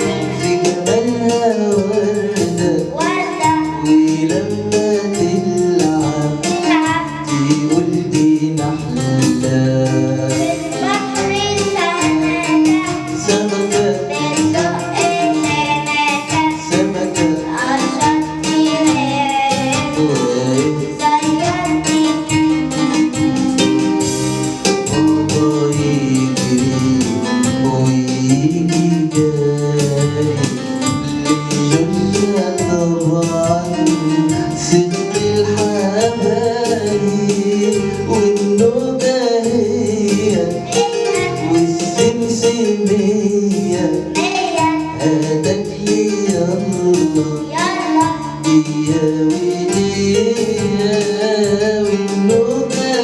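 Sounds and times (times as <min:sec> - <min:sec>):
person singing: 0:00.0 - 0:23.0, 0:25.0 - 0:53.0
instrumental backing with steady beat: 0:00.0 - 0:53.0.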